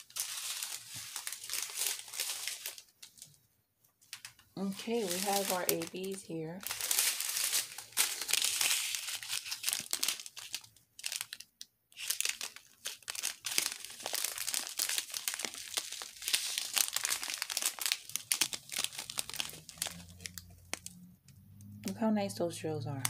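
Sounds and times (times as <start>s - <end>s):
plastic bags crinkling: 0.0s - 21.7s.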